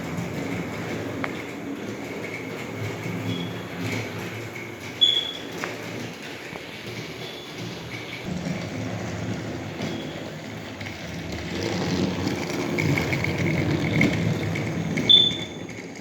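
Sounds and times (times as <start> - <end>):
toy train rattling on track: 0.0 - 16.0.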